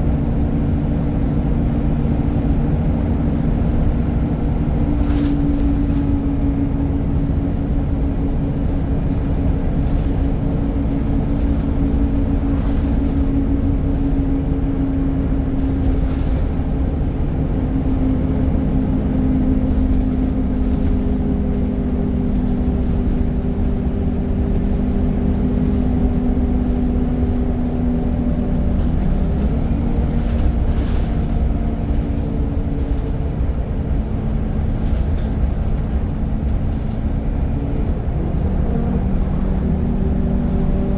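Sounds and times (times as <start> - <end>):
bus diesel engine on board: 0.0 - 40.9.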